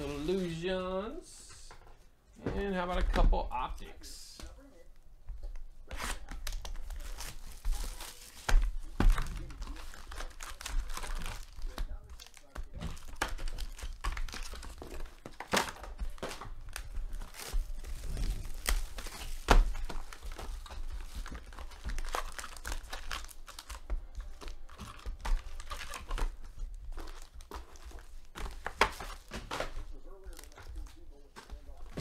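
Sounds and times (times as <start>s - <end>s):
foil packs crinkling and tearing: 6.0s - 32.0s.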